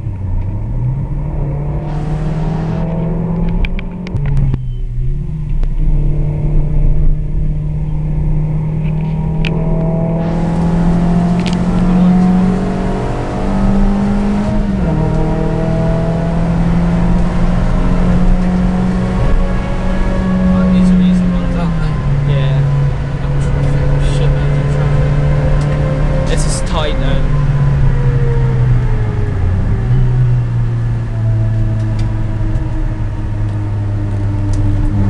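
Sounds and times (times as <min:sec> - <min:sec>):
car engine revving hard: 0:00.3 - 0:04.4, 0:05.8 - 0:35.0.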